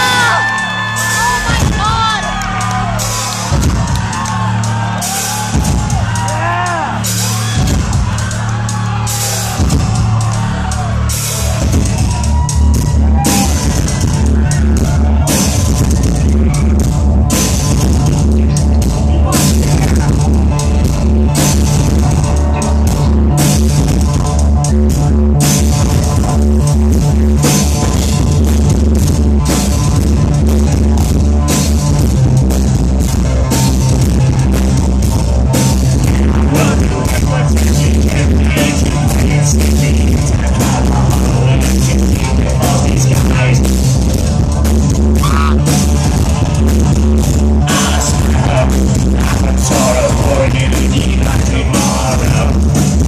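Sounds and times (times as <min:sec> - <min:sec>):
industrial band playing live: 0:00.0 - 0:53.0
steady drum beat: 0:00.0 - 0:53.0.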